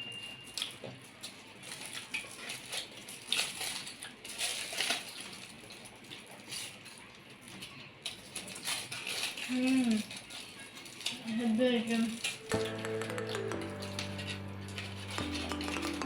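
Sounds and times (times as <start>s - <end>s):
people chewing: 0.2s - 16.0s
crackling handling noises: 0.3s - 16.0s.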